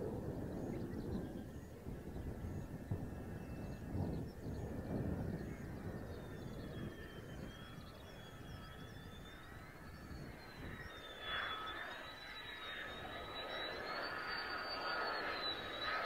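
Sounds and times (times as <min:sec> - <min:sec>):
distant jet engine whine: 0:00.0 - 0:16.0.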